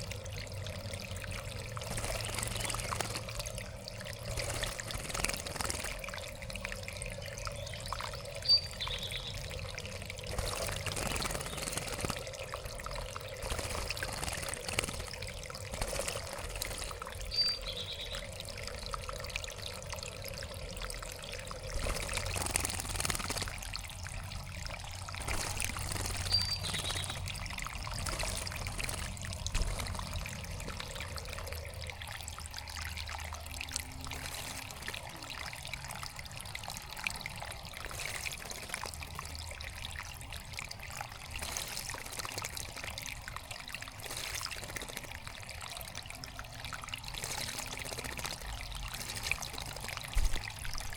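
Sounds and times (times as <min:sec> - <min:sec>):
water trickling and splashing: 0:00.0 - 0:50.9.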